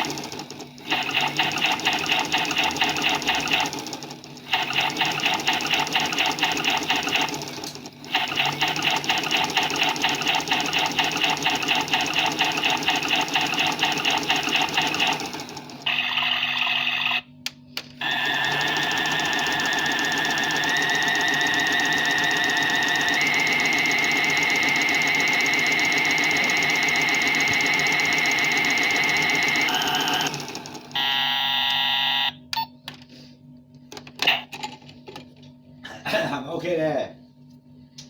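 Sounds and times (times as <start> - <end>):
washing machine whine: 0.0 - 38.0.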